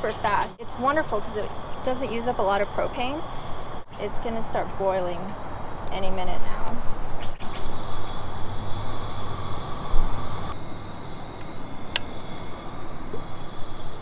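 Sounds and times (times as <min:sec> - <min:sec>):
camp stove burner running: 0:00.0 - 0:06.7, 0:07.4 - 0:14.0.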